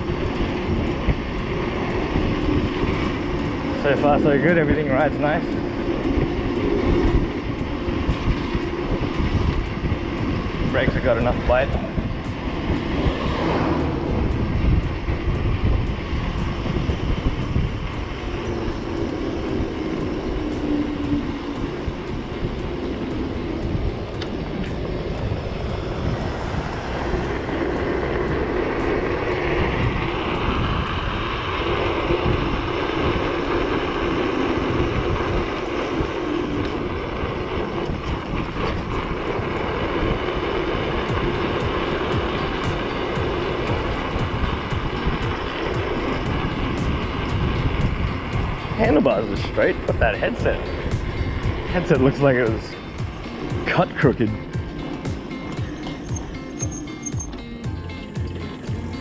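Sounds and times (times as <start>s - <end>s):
tyre noise on road: 0.0s - 59.0s
wind rumbling on microphone: 0.0s - 59.0s.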